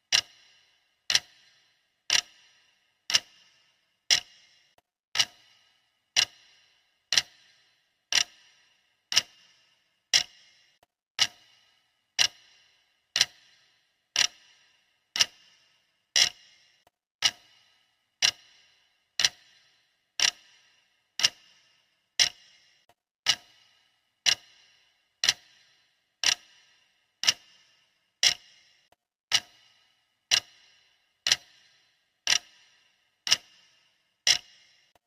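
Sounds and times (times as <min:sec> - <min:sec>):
clock ticking: 0:00.0 - 0:35.0.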